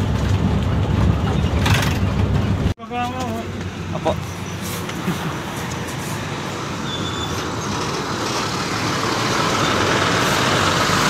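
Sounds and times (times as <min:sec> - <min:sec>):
bus diesel engine running: 0:00.0 - 0:11.0
road and traffic noise: 0:00.0 - 0:11.0.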